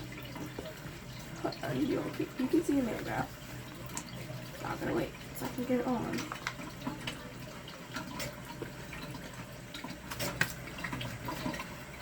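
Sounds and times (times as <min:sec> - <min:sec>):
water heating hiss: 0:00.0 - 0:12.0.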